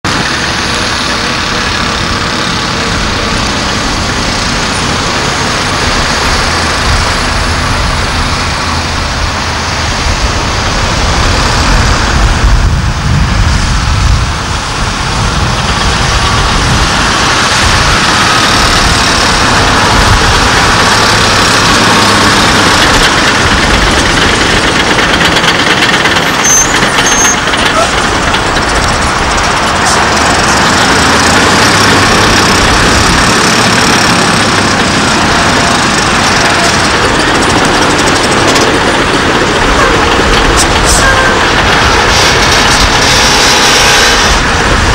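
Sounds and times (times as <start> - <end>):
diesel truck engine running: 0.0 - 44.9
steady rushing noise: 0.0 - 44.9.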